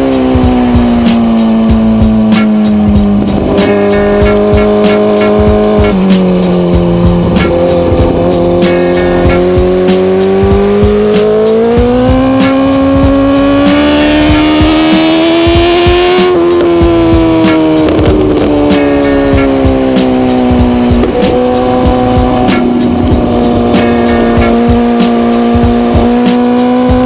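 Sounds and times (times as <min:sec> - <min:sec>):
background music with steady beat: 0:00.0 - 0:27.0
motorcycle engine: 0:00.0 - 0:27.0.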